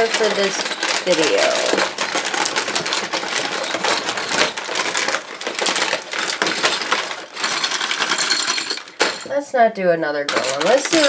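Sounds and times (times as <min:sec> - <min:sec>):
foil and plastic packets crinkling: 0:00.0 - 0:09.4, 0:10.3 - 0:11.0.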